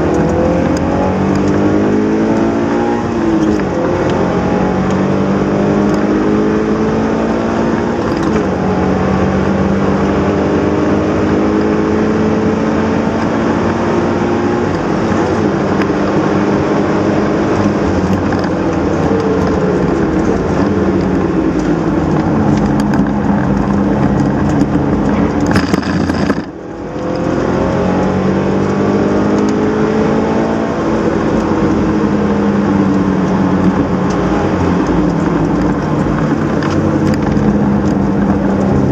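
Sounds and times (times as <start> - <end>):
car engine revving through gears: 0.0 - 38.9
tyre and road noise: 0.0 - 38.9.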